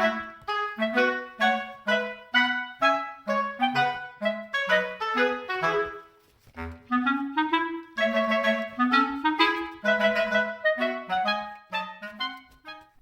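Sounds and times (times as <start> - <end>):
bouncy clarinet-like melody: 0.0 - 13.0.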